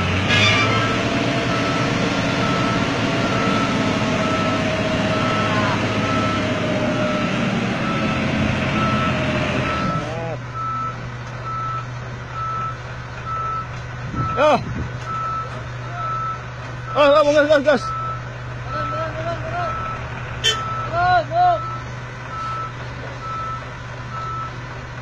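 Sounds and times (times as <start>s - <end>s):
diesel engine under load: 0.0s - 25.0s
reversing alarm beeping: 0.4s - 14.5s, 15.1s - 24.6s.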